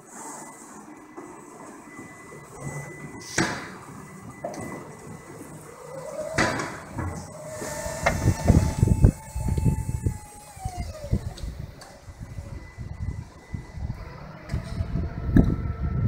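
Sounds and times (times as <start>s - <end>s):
hydraulic whine: 0.0s - 16.0s.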